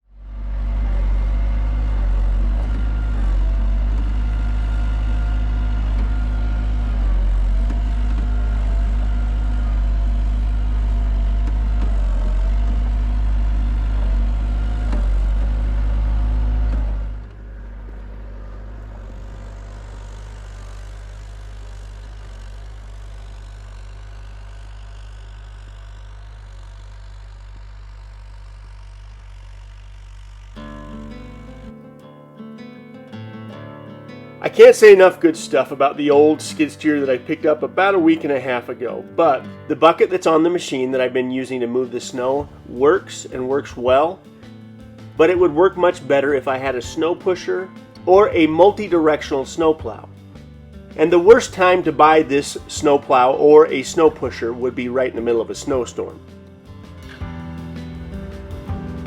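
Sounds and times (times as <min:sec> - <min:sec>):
skid steer engine running: 0:00.0 - 0:31.9, 0:34.4 - 0:59.0.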